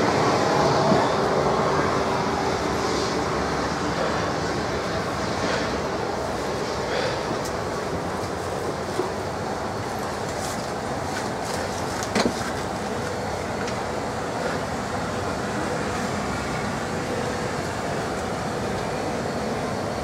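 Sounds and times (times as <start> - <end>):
airliner cabin ventilation hum: 0.0 - 20.0.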